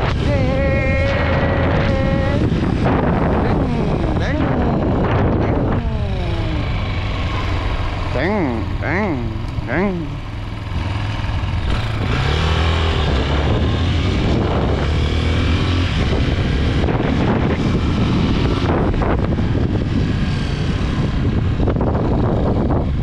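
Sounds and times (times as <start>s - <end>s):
dirt bike engine running: 0.0s - 21.2s
constant rushing noise: 0.0s - 23.0s.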